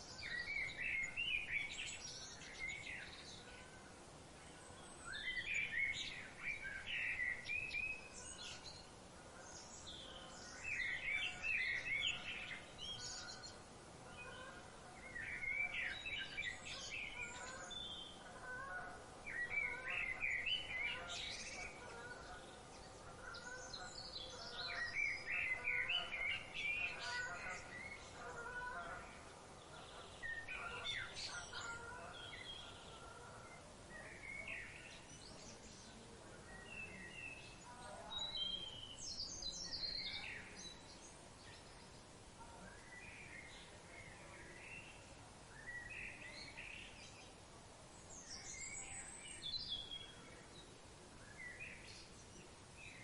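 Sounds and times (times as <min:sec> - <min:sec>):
faint background bird calls: 0:00.0 - 0:53.0.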